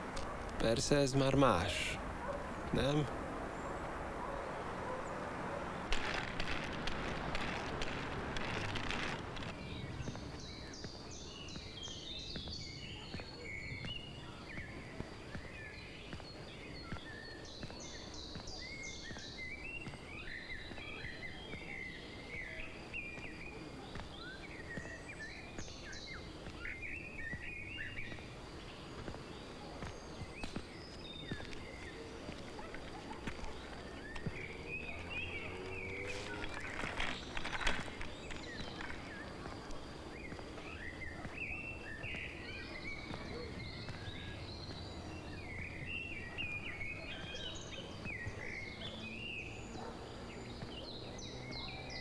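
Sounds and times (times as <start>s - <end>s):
outdoor background noise: 0.0s - 52.0s
small birds singing: 0.0s - 52.0s.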